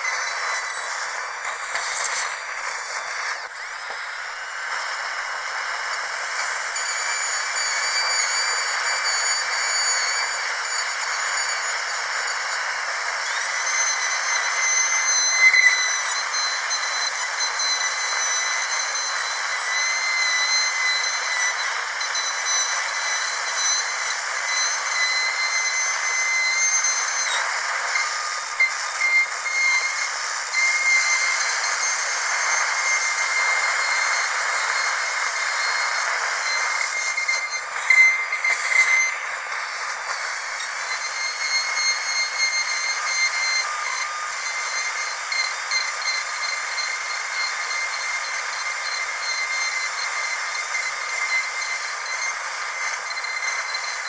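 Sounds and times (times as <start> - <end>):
dental drill whining: 0.0 - 54.0.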